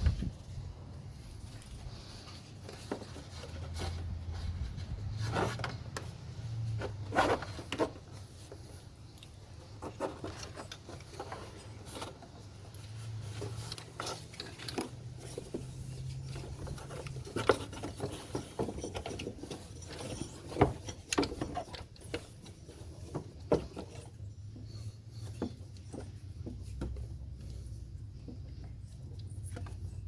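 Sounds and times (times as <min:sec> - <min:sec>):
objects being handled: 0:00.0 - 0:30.0.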